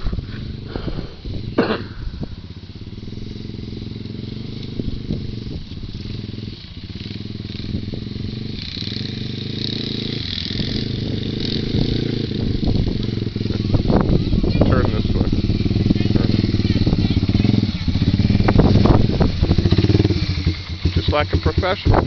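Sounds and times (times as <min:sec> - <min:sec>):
small off-road engine running: 0:00.0 - 0:22.0.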